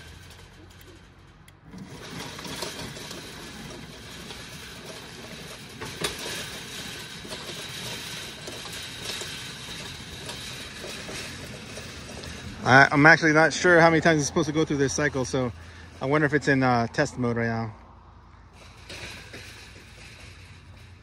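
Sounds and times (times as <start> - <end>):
gate mechanism clack: 0.0 - 16.6, 18.5 - 21.0
gate motor running: 0.0 - 16.7, 18.5 - 21.0.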